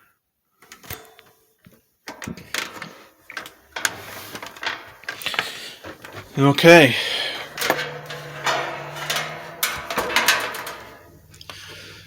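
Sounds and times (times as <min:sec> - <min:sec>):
handling clicks knocks and rustles: 0:00.6 - 0:12.0.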